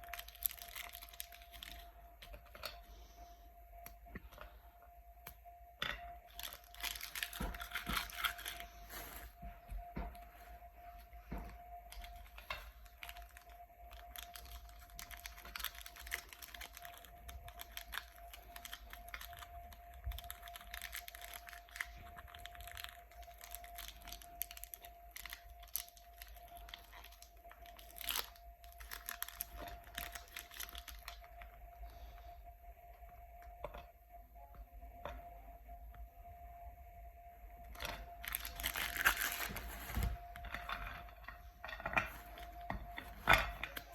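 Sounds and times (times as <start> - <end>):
wrappers crinkling and tearing: 0.0 - 4.4, 5.2 - 32.9, 37.7 - 43.9.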